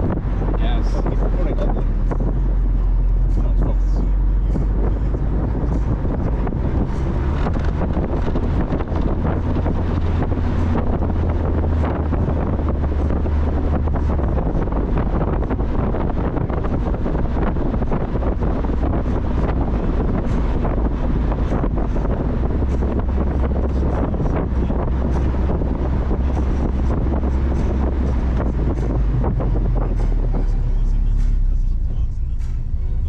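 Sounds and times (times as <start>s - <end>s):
wind buffeting microphone: 0.0s - 30.9s
car engine and road rumble: 0.0s - 33.0s.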